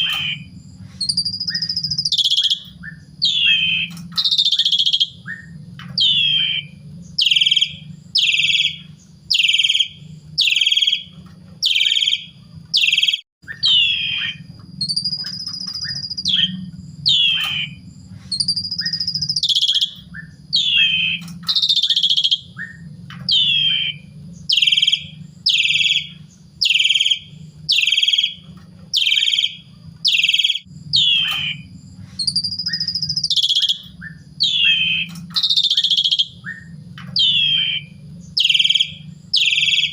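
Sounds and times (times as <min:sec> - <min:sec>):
low steady hum: 0:00.0 - 0:39.9
starling whistling calls: 0:00.0 - 0:39.9.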